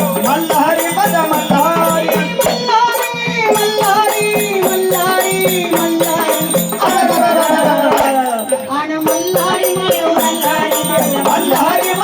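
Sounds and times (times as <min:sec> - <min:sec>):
elderly woman singing: 0:00.0 - 0:12.0
rhythmic rattling percussion: 0:00.0 - 0:12.0.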